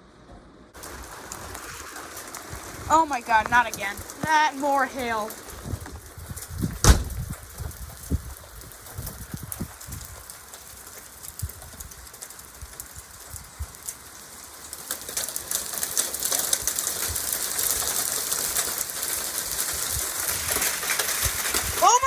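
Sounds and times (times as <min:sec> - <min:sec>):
hail ticking on surfaces: 0:00.8 - 0:22.0
rain hiss: 0:00.8 - 0:22.0.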